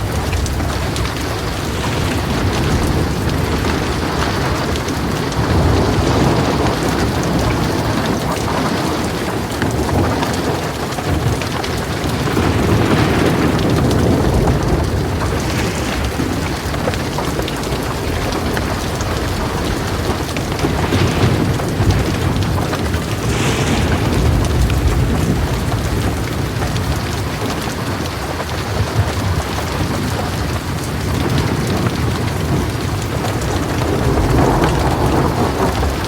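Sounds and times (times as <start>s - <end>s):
heavy rain pouring: 0.0s - 36.0s
low thunder rumbling: 0.0s - 36.0s.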